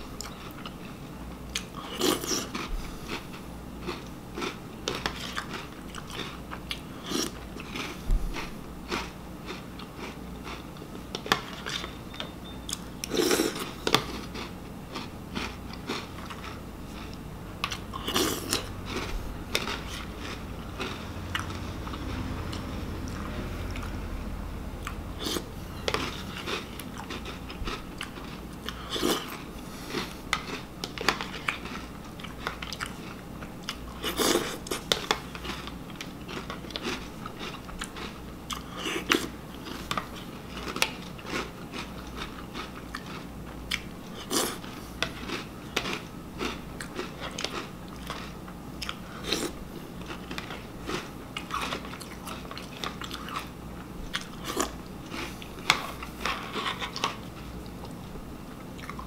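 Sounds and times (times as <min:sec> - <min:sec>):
crunching and chewing cereal: 0:00.1 - 0:24.0, 0:24.8 - 0:59.0.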